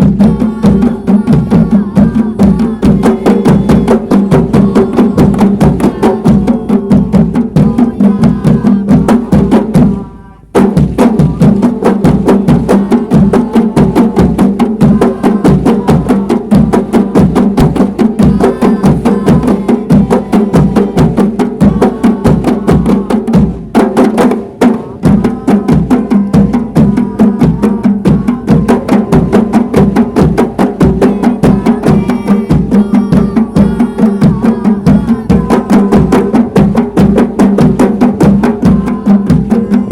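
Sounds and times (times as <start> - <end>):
hand-struck frame drums: 0.0 - 39.9.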